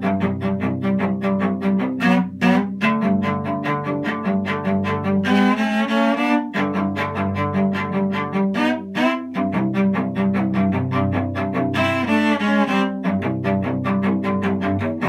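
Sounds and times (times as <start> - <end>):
solo cello bowed: 0.0 - 15.0.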